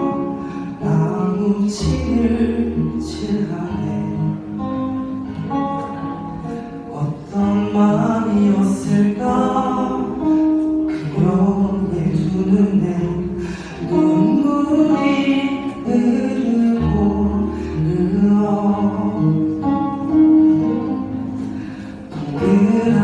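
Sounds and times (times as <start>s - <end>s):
man singing slow song: 0.0s - 5.2s, 6.8s - 23.0s
instrumental accompaniment: 0.0s - 23.0s.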